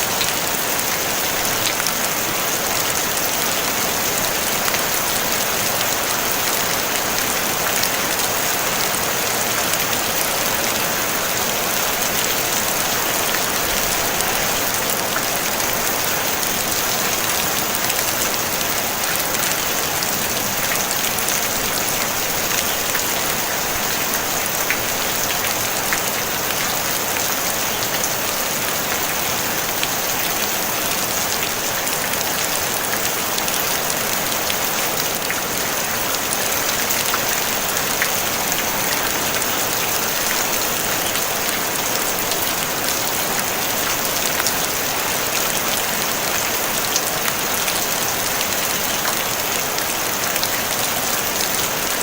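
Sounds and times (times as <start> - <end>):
rain on a tin roof: 0.0 - 52.0.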